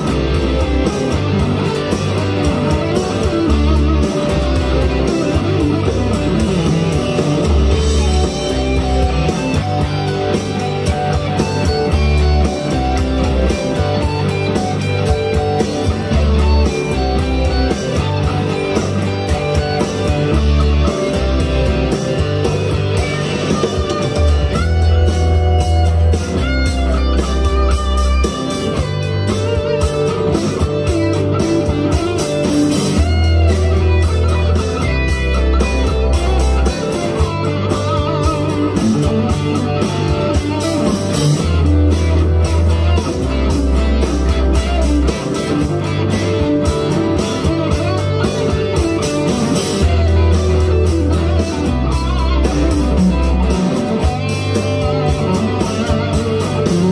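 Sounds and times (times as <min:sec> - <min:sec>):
backing track bass: 0:00.0 - 0:56.9
electric guitar through amp: 0:00.0 - 0:56.9
steady drum beat: 0:00.0 - 0:56.9.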